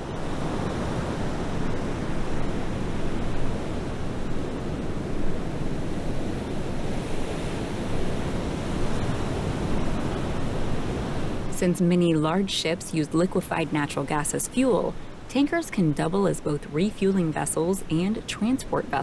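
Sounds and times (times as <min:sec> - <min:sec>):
sea: 0:00.0 - 0:19.0
wind: 0:00.0 - 0:19.0.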